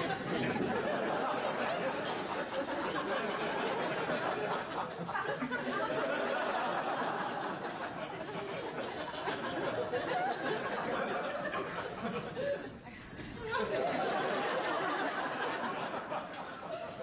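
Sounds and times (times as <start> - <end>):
audience laughing and chattering: 0.0 - 17.0.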